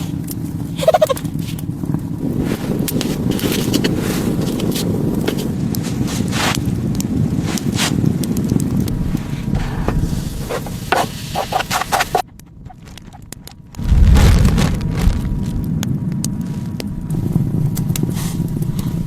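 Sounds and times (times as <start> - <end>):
crackles and rustling: 0.0 - 19.0
wind buffeting microphone: 0.0 - 19.0.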